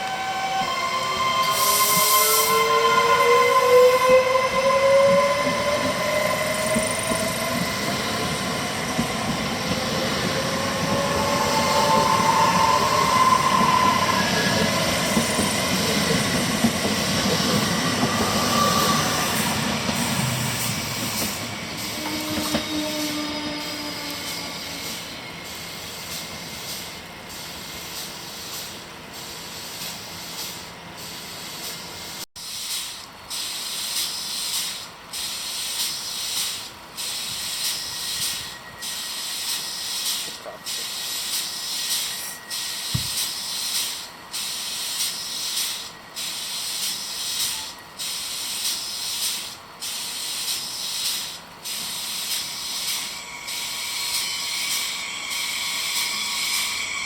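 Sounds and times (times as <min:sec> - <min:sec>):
train rolling past: 0:00.0 - 0:57.0.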